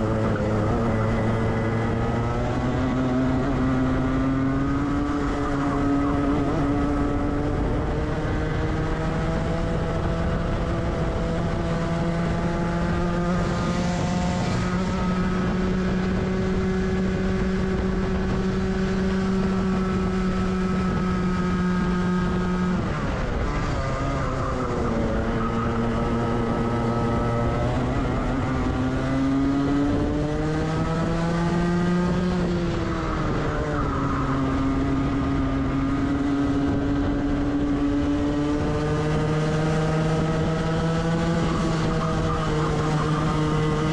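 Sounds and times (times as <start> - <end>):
kart engine at full throttle: 0.0 - 43.9.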